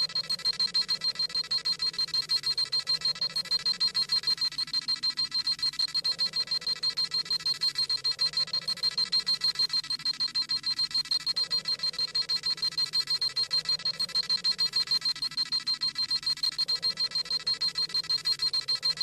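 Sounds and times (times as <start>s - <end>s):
rapid high-pitched electronic beeping: 0.0s - 19.0s.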